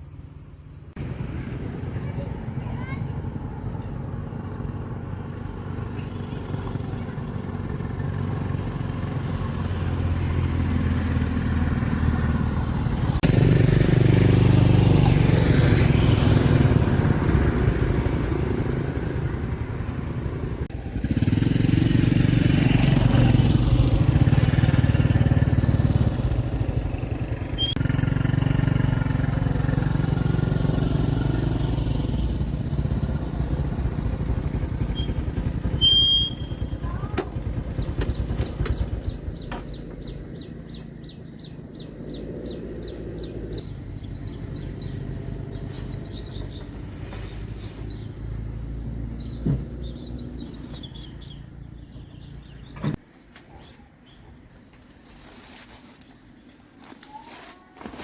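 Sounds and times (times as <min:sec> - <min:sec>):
engine running: 0:00.9 - 0:53.0.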